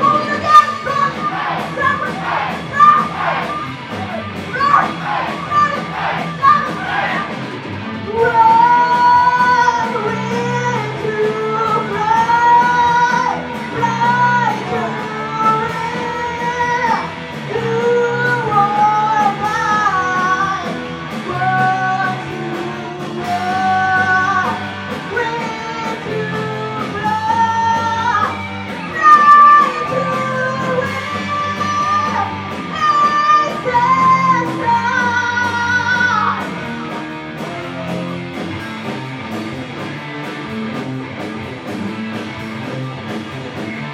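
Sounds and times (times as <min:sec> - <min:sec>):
person singing: 0:00.0 - 0:07.4, 0:08.0 - 0:36.6
rock band playing: 0:00.0 - 0:43.9.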